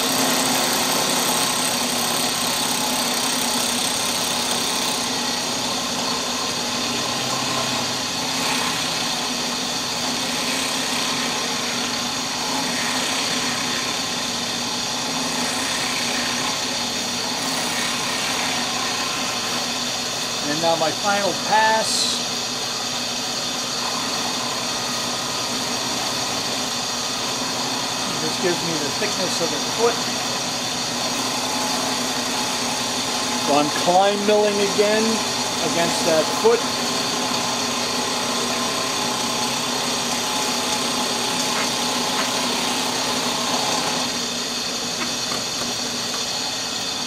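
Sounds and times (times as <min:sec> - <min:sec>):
drill press milling wood: 0:00.0 - 0:47.0.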